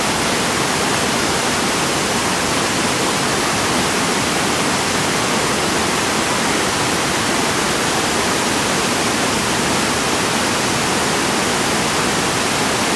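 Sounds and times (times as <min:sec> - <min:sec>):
waterfall rushing into pool: 0:00.0 - 0:12.9.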